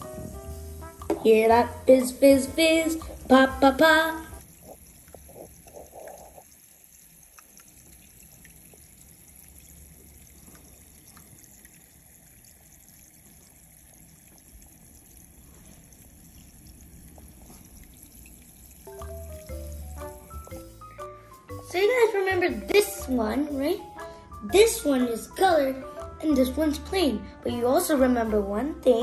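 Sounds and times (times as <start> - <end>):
faint fizzing bubbles: 0.0 - 26.8.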